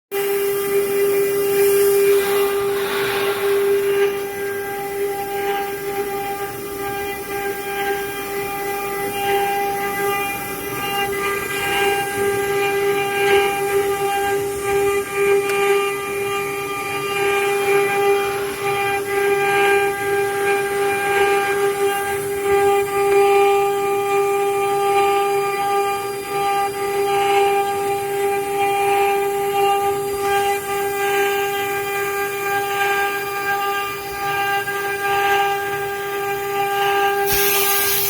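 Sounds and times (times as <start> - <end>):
router spindle whine: 0.2 - 38.0.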